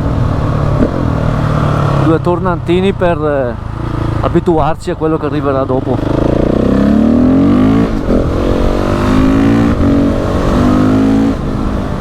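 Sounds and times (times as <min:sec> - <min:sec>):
motorcycle engine accelerating hard: 0:00.0 - 0:02.6, 0:03.4 - 0:04.5, 0:05.7 - 0:12.0.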